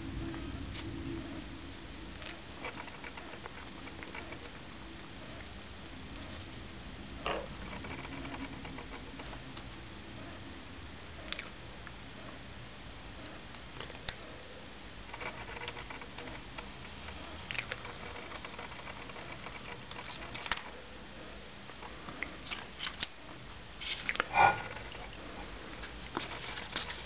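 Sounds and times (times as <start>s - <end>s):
thin high whine: 0.0s - 27.0s.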